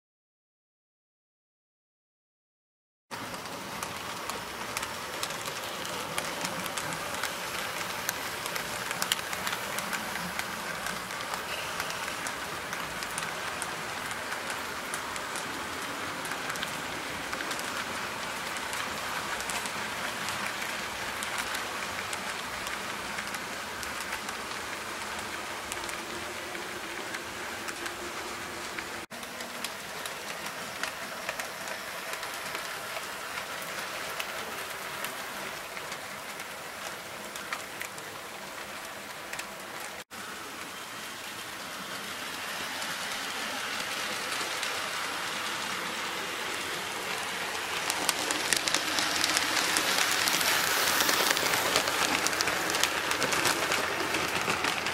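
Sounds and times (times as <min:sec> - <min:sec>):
model train wheels clicking on rails: 0:03.2 - 0:54.9.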